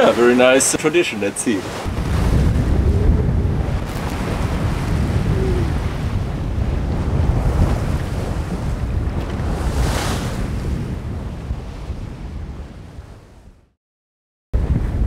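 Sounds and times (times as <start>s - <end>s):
sea waves washing past boat: 0.0s - 13.6s
wind buffeting microphone: 1.7s - 13.6s, 14.6s - 15.0s.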